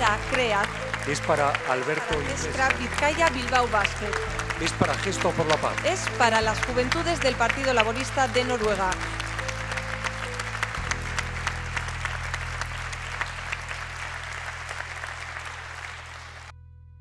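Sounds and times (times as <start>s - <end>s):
audience applauding: 0.0s - 16.5s
background music: 0.0s - 16.8s.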